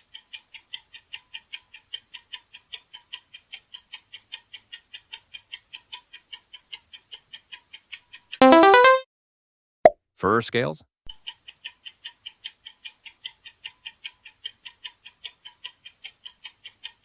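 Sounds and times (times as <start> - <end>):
rapid timer ticking: 0.0 - 8.4, 11.2 - 17.0.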